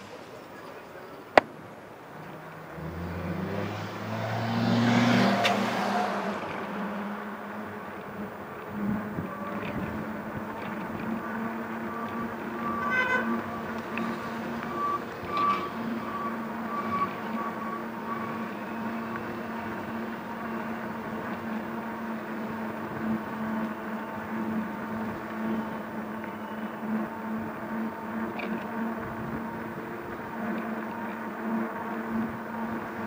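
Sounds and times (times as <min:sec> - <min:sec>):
traffic noise: 0:00.0 - 0:33.0
electric bike motor hum: 0:02.3 - 0:33.0.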